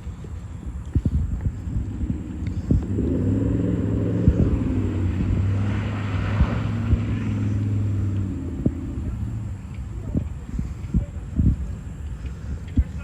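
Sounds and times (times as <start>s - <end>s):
engine and exhaust drone: 0.0s - 13.0s.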